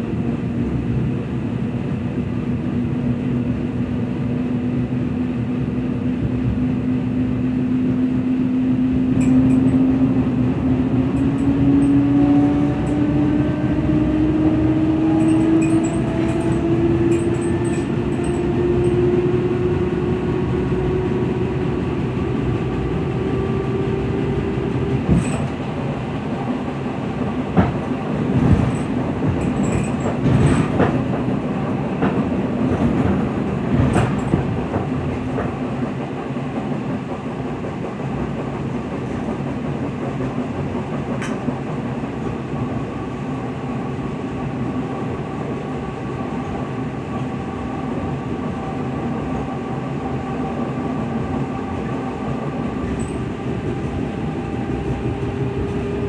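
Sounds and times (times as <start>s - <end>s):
train running gear rumbling: 0.0s - 56.0s.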